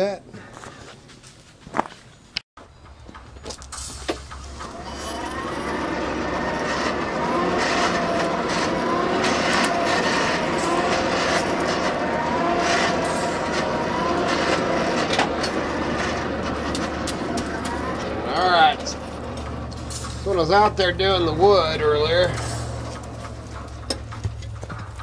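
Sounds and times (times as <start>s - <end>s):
faint gear whine: 2.6s - 25.0s
hand-cranked blower whirring: 3.6s - 25.0s.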